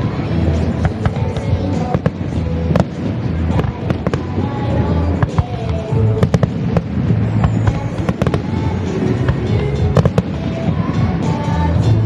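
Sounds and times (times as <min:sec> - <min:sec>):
low rumble of echoing reports: 0:00.0 - 0:12.0.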